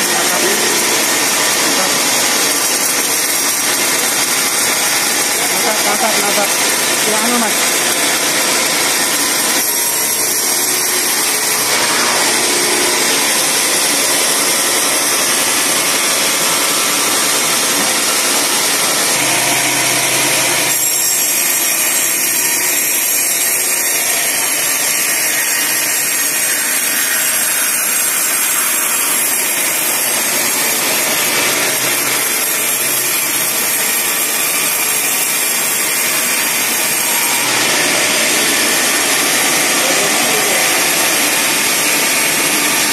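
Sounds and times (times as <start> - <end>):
band saw cutting through log: 0.0 - 42.9.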